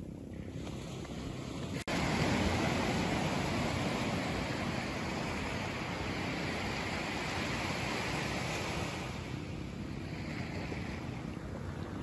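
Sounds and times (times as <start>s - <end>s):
surf waves washing over sand: 0.4s - 12.0s.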